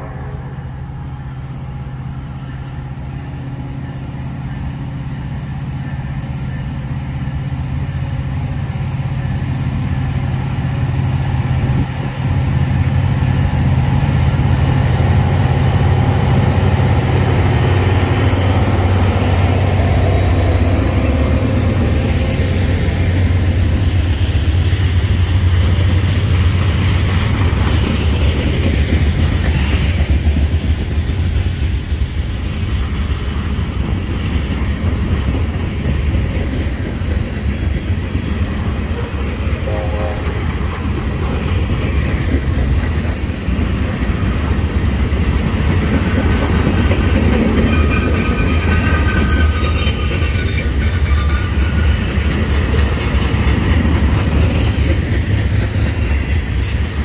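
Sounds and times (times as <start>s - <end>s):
locomotive engine rumble: 0.0s - 57.0s
train rolling noise: 0.0s - 57.0s.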